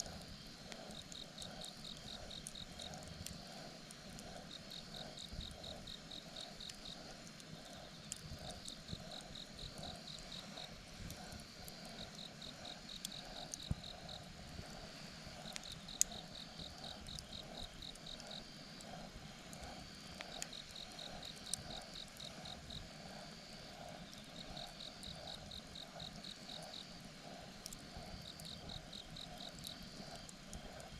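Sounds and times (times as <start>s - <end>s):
campfire crackling: 0.0s - 30.9s
low steady pulsing insect call: 0.0s - 30.9s.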